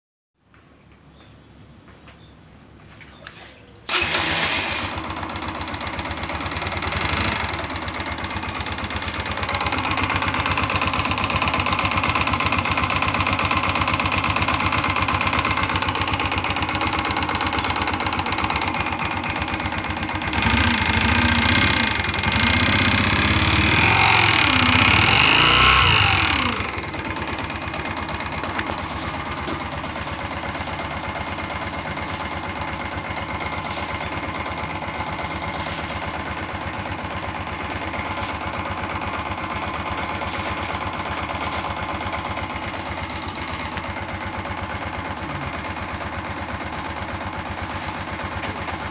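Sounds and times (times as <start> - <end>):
motorcycle engine idling and revving: 3.2 - 48.9.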